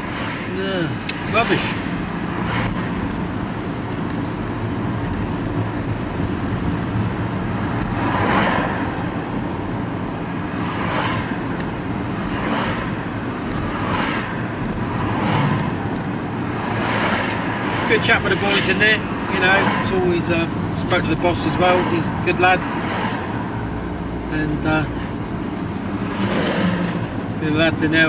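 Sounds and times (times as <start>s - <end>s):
vehicle engine hum from cab: 0.0s - 28.0s.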